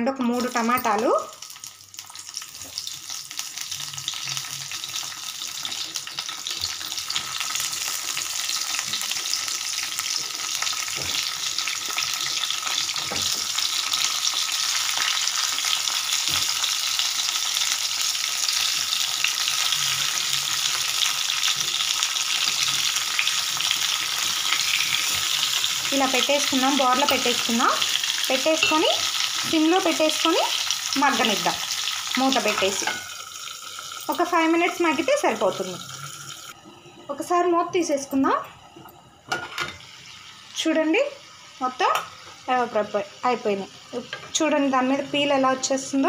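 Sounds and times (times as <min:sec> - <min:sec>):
vegetables sizzling in hot oil: 0:00.1 - 0:46.0.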